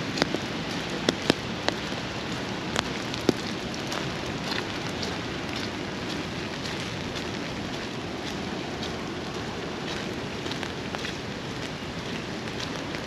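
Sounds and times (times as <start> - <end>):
rain falling on surfaces: 0.0 - 13.0.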